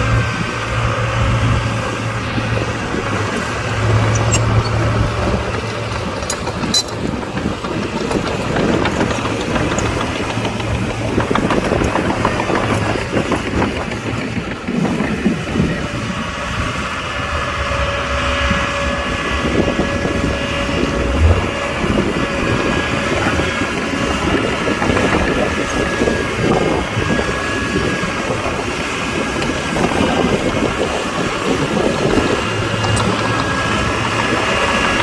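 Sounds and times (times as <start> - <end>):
diesel engine running: 0.0 - 35.0
steady whining tones: 0.0 - 35.0.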